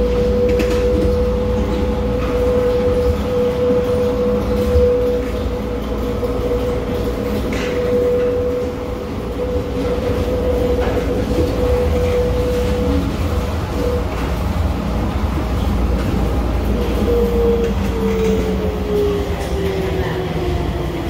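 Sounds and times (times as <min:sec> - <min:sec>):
tram low running rumble: 0:00.0 - 0:21.0.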